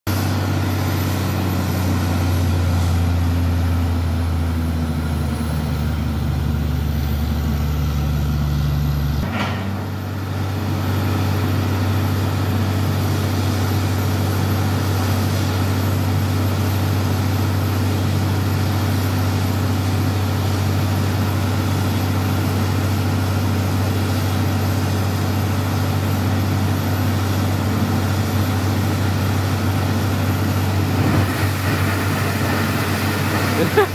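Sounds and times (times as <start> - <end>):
diesel engine drone: 0.1 - 33.9.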